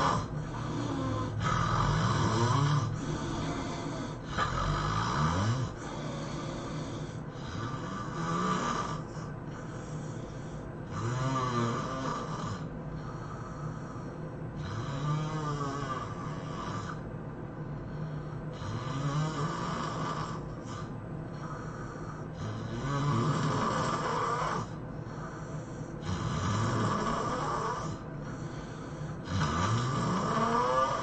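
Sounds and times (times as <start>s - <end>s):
person snoring heavily: 0.0s - 17.0s, 17.9s - 31.0s.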